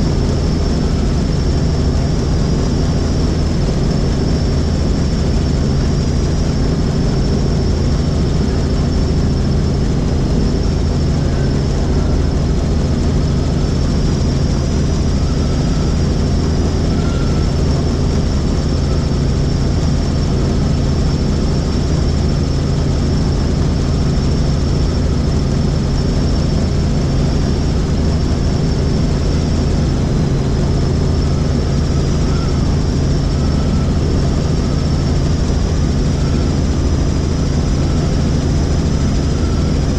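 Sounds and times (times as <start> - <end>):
thin high whine: 0.0 - 22.4, 26.1 - 39.9
helicopter engine and rotor: 0.0 - 39.9.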